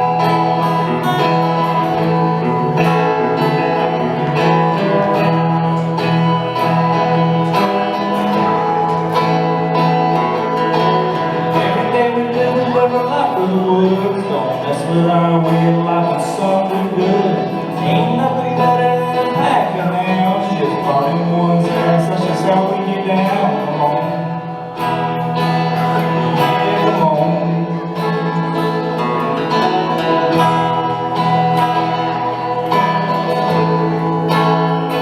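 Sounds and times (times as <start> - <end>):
live country song with guitar: 0.0 - 35.0.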